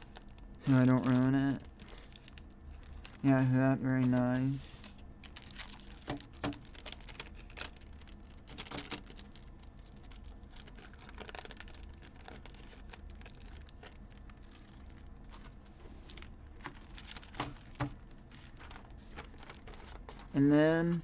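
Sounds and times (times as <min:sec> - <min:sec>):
foil sheets sliding: 0:00.0 - 0:21.0
plastic sleeve crinkling: 0:00.0 - 0:21.0.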